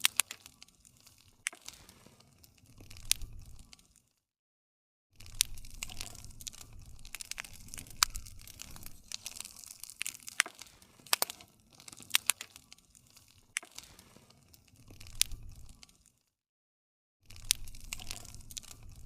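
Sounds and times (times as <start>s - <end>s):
flame rumbling: 0.0s - 3.9s, 5.2s - 16.0s, 17.3s - 19.0s
burning wood popping: 0.0s - 4.1s, 5.2s - 16.2s, 17.3s - 19.0s.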